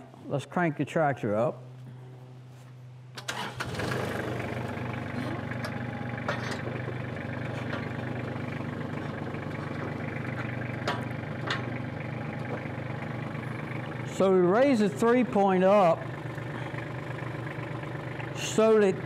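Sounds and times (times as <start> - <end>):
tractor engine starting and idling: 3.1 - 19.0.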